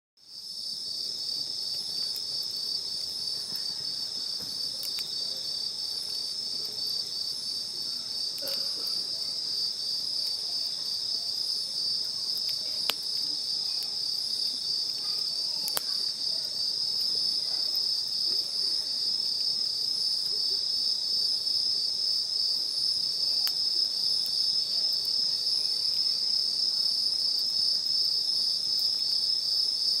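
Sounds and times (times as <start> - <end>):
insects trilling: 0.2 - 30.0.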